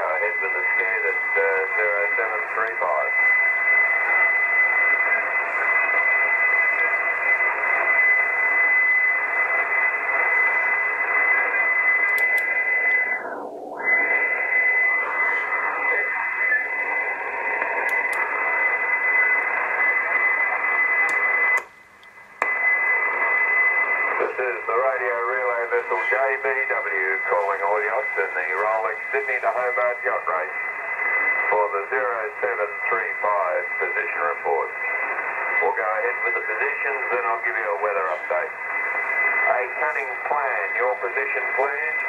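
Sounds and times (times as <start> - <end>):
gliding radio tone: 0.0 - 21.6, 22.4 - 42.0
radio static hiss: 0.0 - 42.0.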